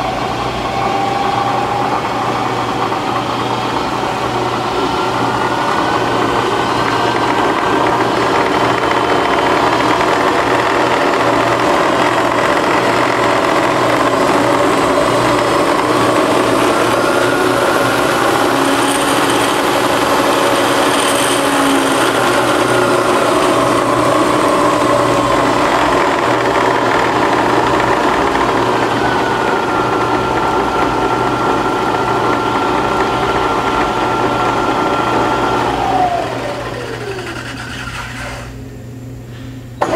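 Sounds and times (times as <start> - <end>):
milling machine spindle whine: 0.0 - 39.2.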